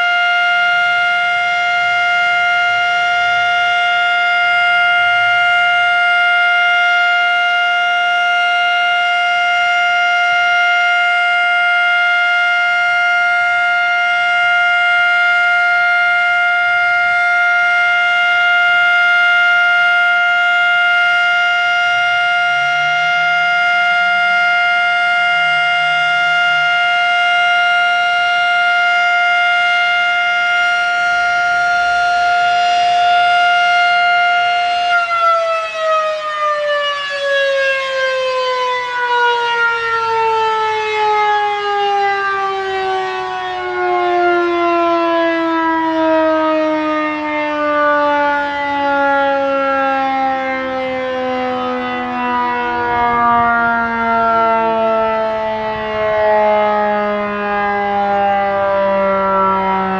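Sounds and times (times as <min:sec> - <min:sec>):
warning siren winding down: 0:00.0 - 0:59.9.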